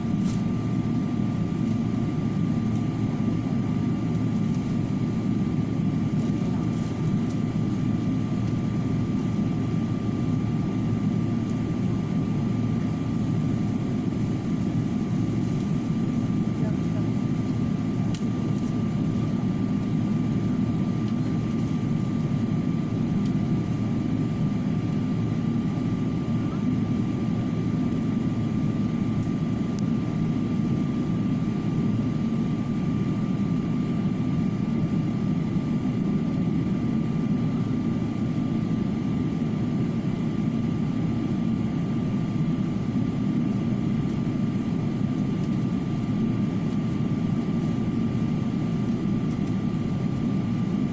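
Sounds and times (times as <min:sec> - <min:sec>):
jet aircraft engines running: 0:00.0 - 0:50.9.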